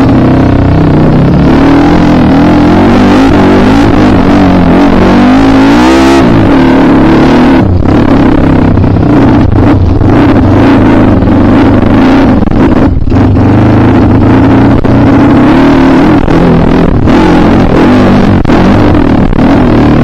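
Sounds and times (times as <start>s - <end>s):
dirt bike engine under throttle: 0.0s - 20.0s.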